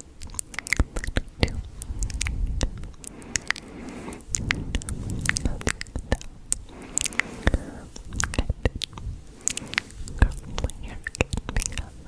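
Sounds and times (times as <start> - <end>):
mouth clicks and smacks: 0.0 - 12.0
soft low rustle: 0.0 - 12.0.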